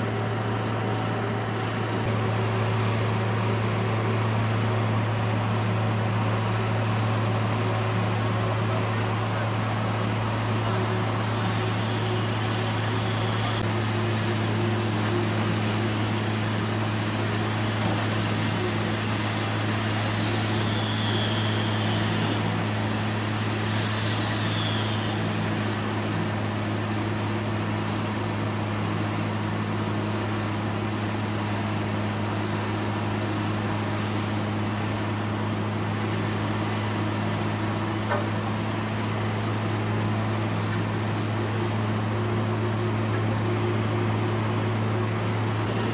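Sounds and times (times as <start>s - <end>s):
steady engine drone: 0.0s - 45.9s.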